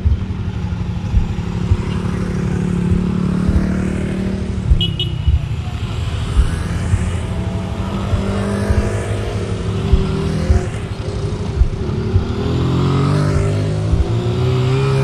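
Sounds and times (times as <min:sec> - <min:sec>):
motorcycles riding past: 0:00.0 - 0:15.0.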